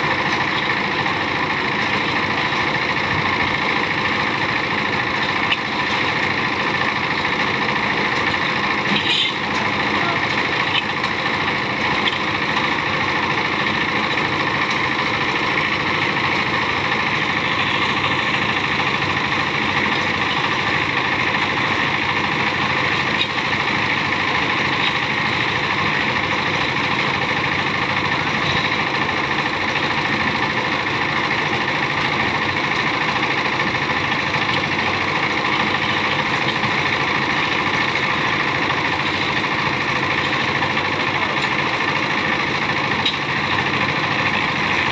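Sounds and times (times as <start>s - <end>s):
machine engine running: 0.0s - 44.9s.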